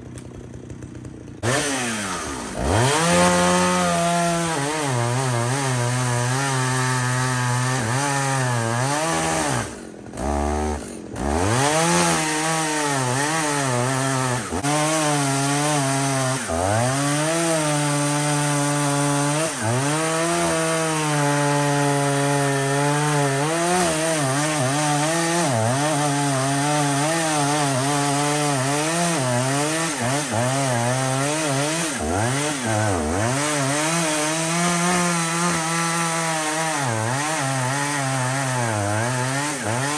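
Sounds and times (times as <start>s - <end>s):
chainsaw cutting at full throttle: 0.0s - 39.9s.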